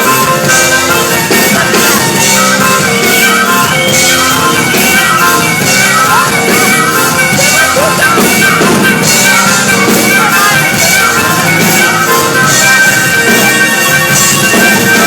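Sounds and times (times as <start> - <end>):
drums: 0.0 - 15.0
live rock band: 0.0 - 15.0
person singing: 0.0 - 15.0.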